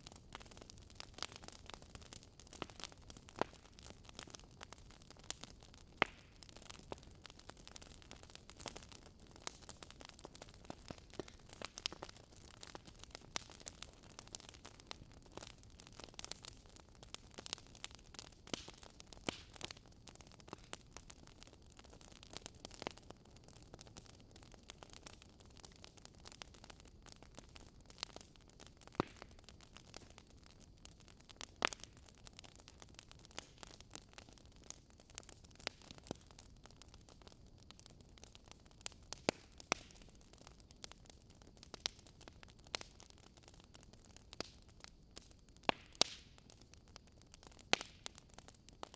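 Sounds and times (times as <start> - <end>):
low steady hiss: 0.0 - 48.9
wood fire crackling: 0.0 - 48.9.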